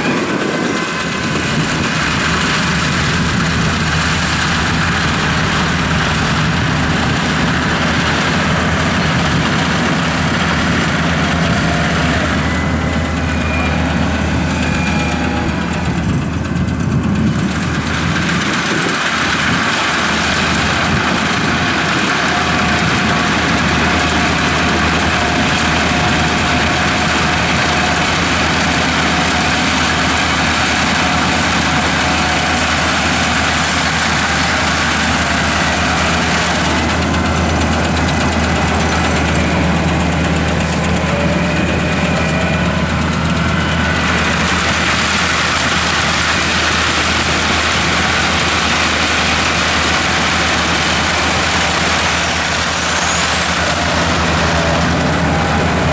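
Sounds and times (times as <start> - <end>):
diesel engine running: 0.0 - 55.9
mechanical rush: 0.0 - 55.9.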